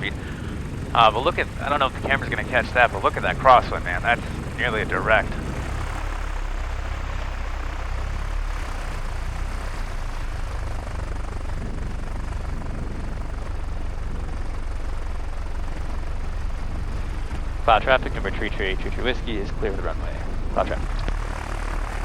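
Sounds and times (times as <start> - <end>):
airplane engine droning: 0.0 - 22.0
wind and airframe noise: 0.0 - 22.0.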